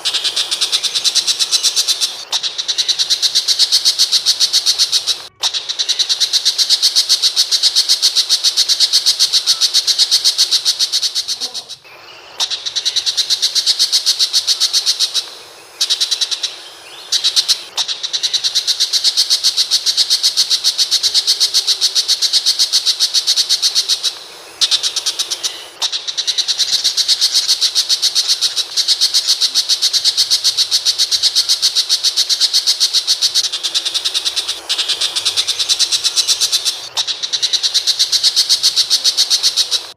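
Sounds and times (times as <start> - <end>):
bird calling high-pitched notes: 0.0 - 39.9.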